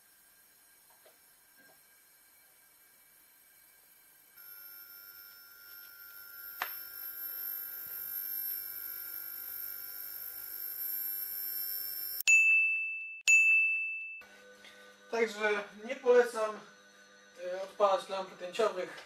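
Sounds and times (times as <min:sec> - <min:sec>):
high-pitched electric arc whine: 0:00.0 - 0:12.2, 0:14.3 - 0:18.9.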